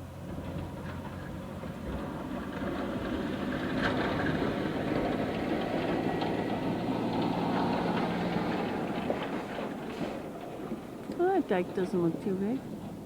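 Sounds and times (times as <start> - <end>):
truck engine driving past: 0.0 - 12.9
snow plowing: 0.6 - 13.0.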